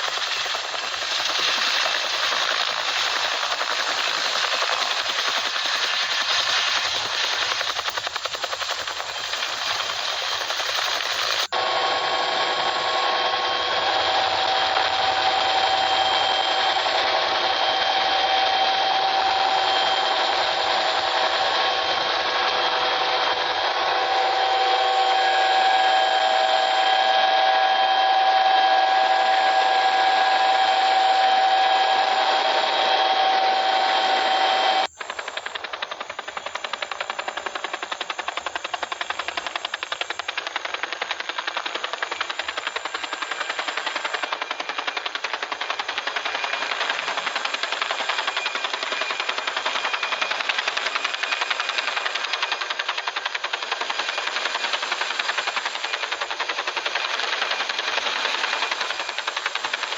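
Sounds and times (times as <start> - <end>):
helicopter running with whine: 0.0 - 59.9
rotor blades pulsing: 0.0 - 59.9.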